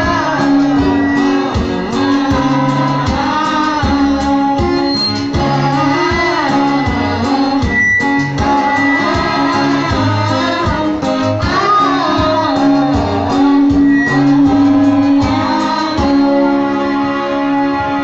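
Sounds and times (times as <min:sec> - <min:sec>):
song with bass and beat: 0:00.0 - 0:18.0.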